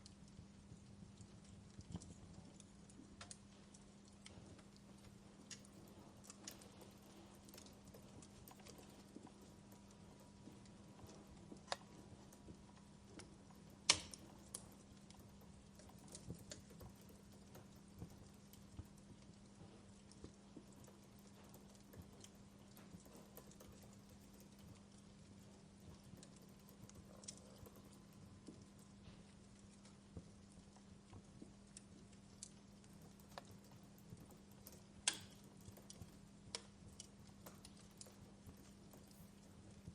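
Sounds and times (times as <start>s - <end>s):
steady low hum: 0.0s - 39.9s
wood fire crackling: 0.0s - 39.9s.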